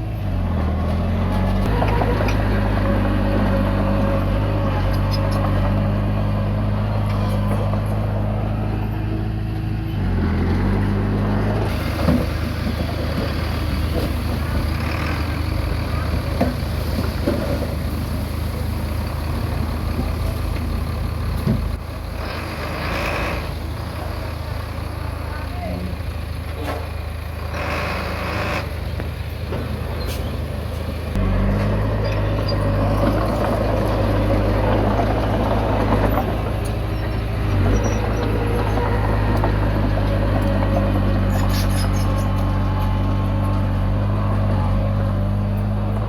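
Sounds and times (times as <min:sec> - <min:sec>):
bulldozer diesel engine running: 0:00.0 - 0:46.0.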